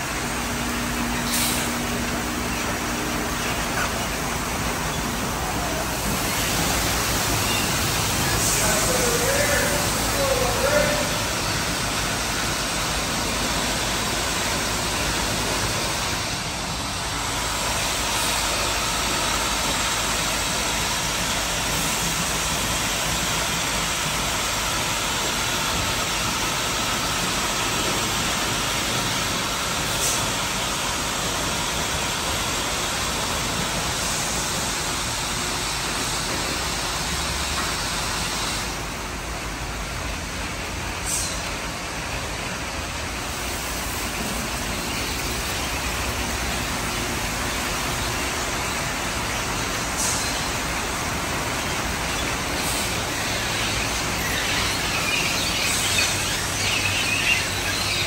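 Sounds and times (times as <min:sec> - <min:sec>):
car wash brushes and spray: 0:00.0 - 0:58.0.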